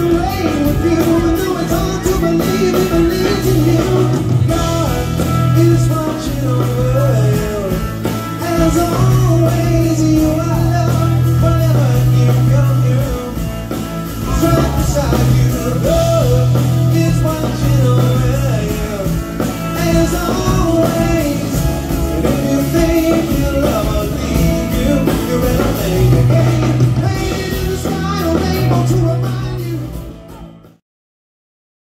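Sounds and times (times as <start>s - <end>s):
live rock band playing: 0.0s - 30.8s
sung melody: 0.0s - 30.8s.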